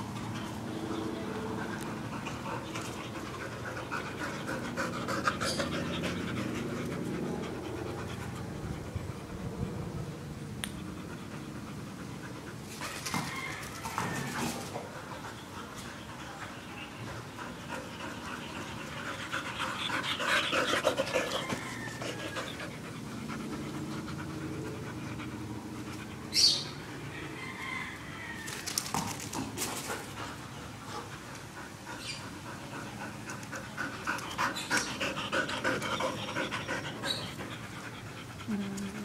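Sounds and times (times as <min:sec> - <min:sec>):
dogs panting: 0:00.0 - 0:10.2, 0:10.8 - 0:27.8, 0:28.7 - 0:39.0.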